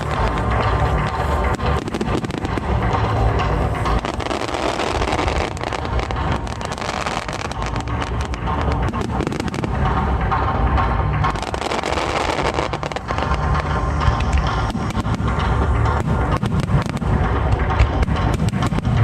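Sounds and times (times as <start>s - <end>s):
fireworks bursting and crackling: 0.0s - 19.0s
music playing: 0.0s - 19.0s.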